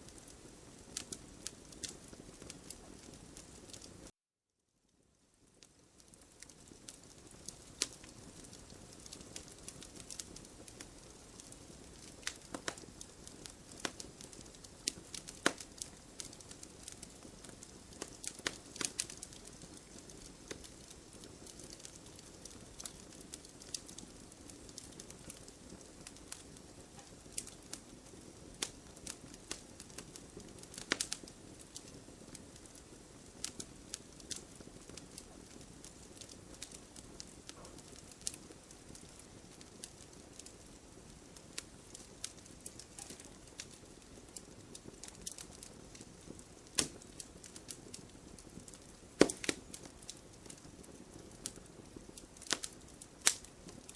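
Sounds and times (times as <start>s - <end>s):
campfire crackling: 0.0s - 4.1s, 5.2s - 53.9s
burning logs hissing: 5.7s - 53.9s.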